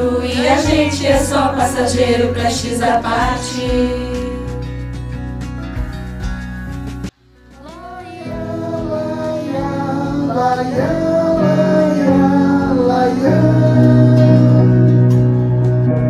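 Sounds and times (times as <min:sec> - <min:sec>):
slow gentle song accompaniment: 0:00.0 - 0:16.0.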